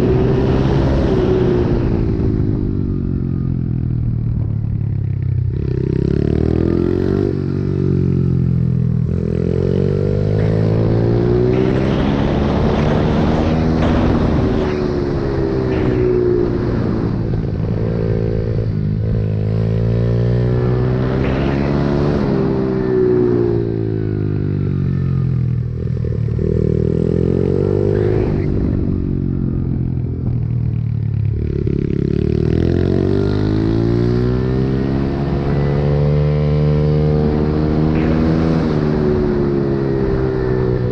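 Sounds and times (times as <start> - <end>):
motorbike engine accelerating: 0.0 - 40.9.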